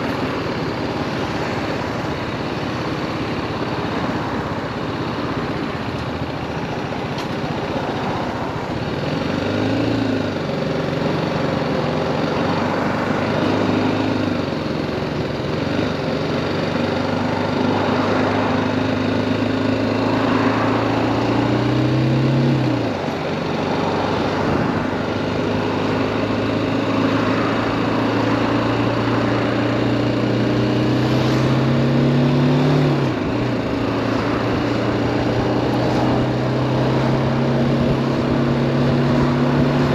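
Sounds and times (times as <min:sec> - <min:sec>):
road noise: 0:00.0 - 0:39.9
wind: 0:00.0 - 0:39.9.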